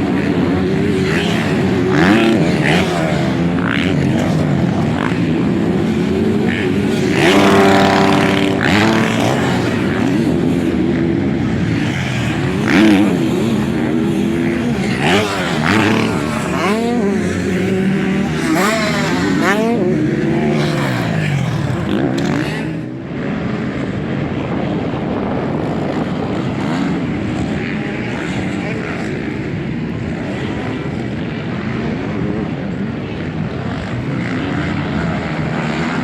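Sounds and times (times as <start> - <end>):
motocross engines revving: 0.0 - 36.0.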